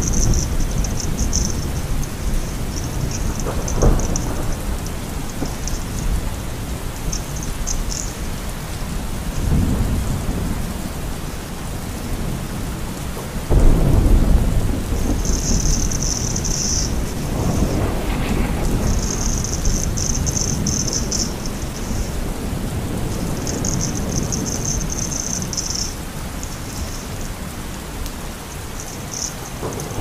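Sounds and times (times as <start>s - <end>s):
rain hissing: 0.0s - 30.0s
thunder rumbling: 0.0s - 30.0s.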